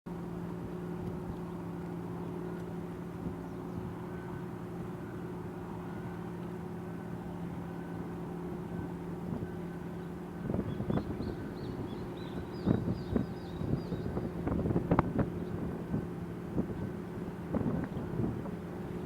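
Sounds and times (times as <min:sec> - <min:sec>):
ship engines droning: 0:00.1 - 0:19.0.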